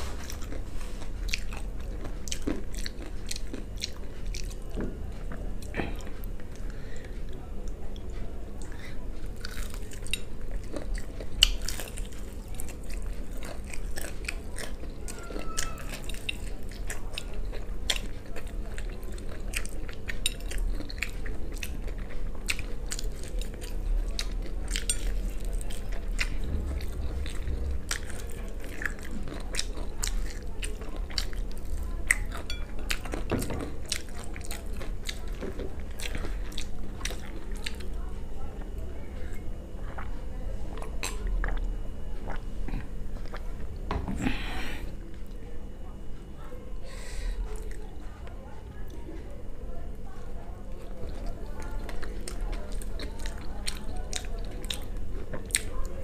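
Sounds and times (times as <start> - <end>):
chewing mouth sounds: 0.0 - 38.0, 38.6 - 44.3, 50.7 - 56.0.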